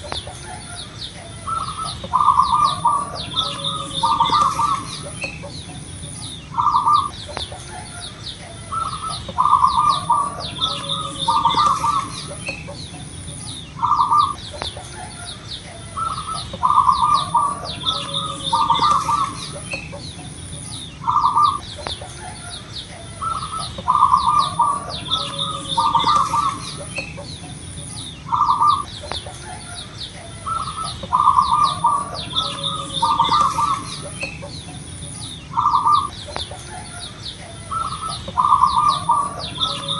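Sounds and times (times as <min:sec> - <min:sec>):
doves cooing: 0:00.0 - 0:39.9
high chirping: 0:00.0 - 0:39.9.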